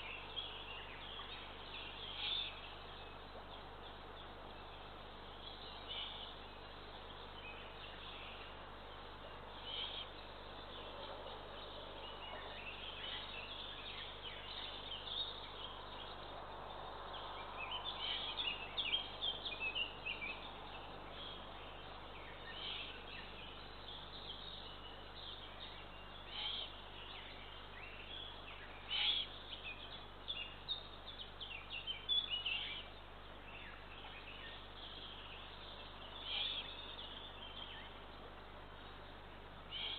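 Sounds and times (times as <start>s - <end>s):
birds chirping: 0.0s - 39.9s
steady low hiss: 0.0s - 39.9s.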